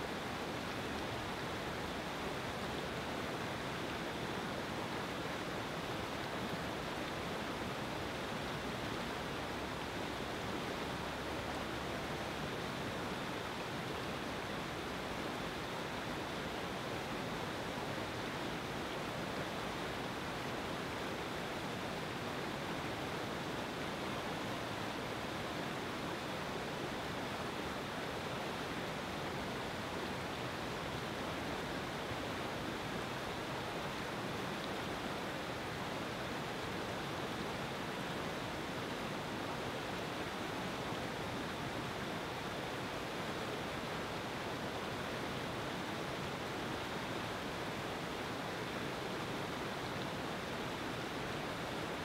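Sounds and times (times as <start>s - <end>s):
river rapids rushing over rocks: 0.1s - 52.0s.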